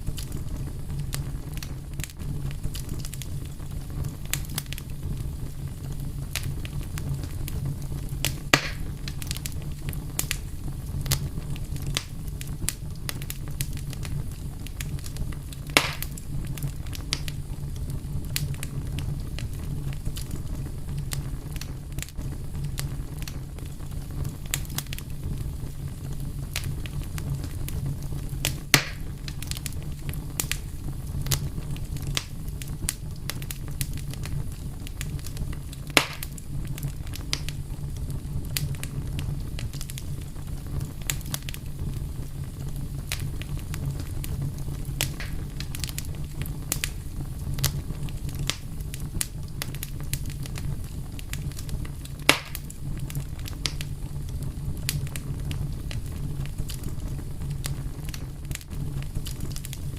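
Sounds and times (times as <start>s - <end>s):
fire crackling: 0.0s - 59.9s
loud fire pops: 0.0s - 59.9s.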